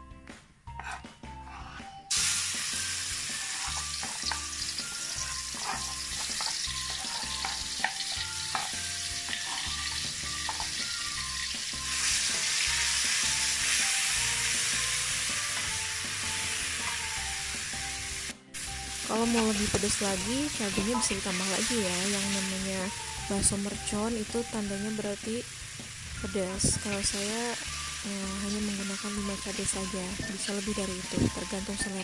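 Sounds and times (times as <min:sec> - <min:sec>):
spatula stir-frying in wok: 0:00.8 - 0:32.0
paste sizzling in hot oil: 0:02.1 - 0:32.0.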